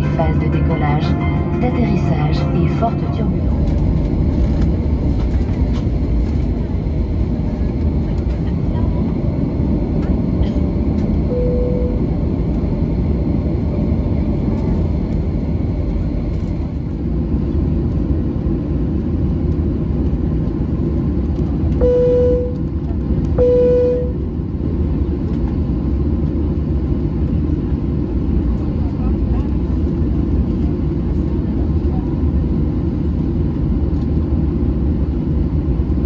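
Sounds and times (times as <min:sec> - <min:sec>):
aircraft engine rumble in cabin: 0:00.0 - 0:36.0.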